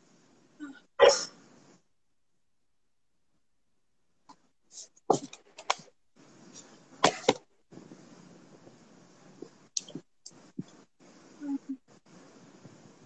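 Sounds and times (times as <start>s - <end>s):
low steady hiss: 0.0s - 2.5s, 3.3s - 13.0s.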